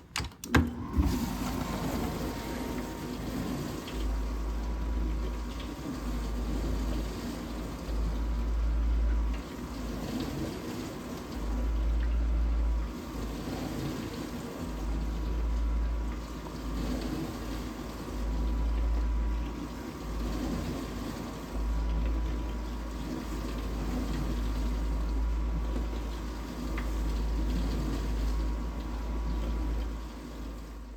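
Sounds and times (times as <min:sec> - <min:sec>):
dishwasher pump humming: 0:00.0 - 0:30.9
water spraying and sloshing: 0:00.8 - 0:30.9.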